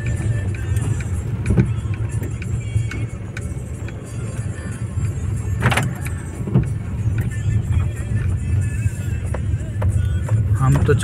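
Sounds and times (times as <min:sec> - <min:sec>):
background music: 0:00.0 - 0:11.0
car engine and tyre rumble: 0:00.0 - 0:11.0.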